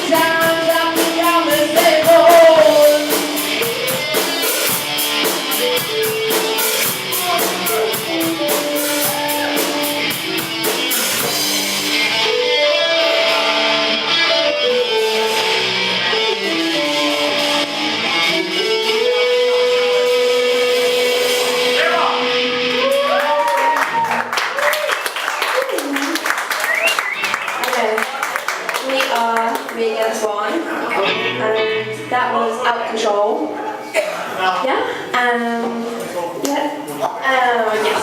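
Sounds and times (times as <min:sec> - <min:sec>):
electric guitar: 0:00.0 - 0:24.4, 0:25.6 - 0:33.5
drums: 0:00.0 - 0:31.3.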